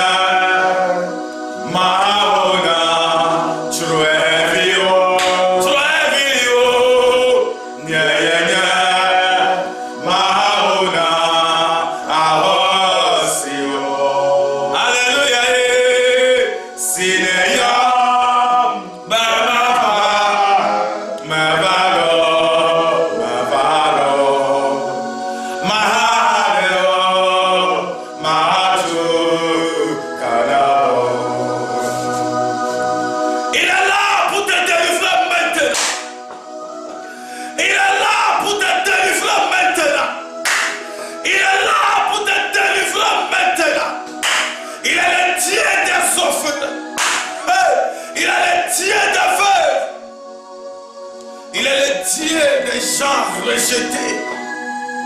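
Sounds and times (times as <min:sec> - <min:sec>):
man chanting: 0:00.0 - 0:25.0, 0:25.6 - 0:31.4, 0:33.5 - 0:36.0, 0:37.6 - 0:40.4, 0:41.0 - 0:50.0, 0:51.5 - 0:54.4.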